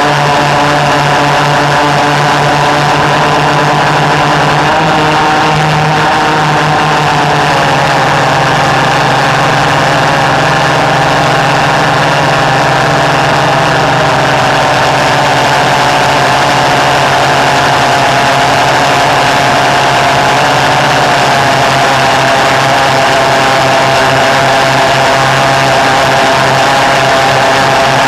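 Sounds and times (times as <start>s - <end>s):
pulse jet engine buzzing: 0.0s - 28.0s.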